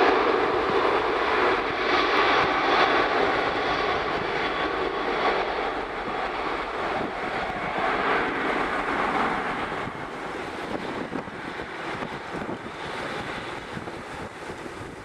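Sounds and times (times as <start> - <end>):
jet engine roar: 0.0 - 15.0
wind buffeting microphone: 0.0 - 15.0.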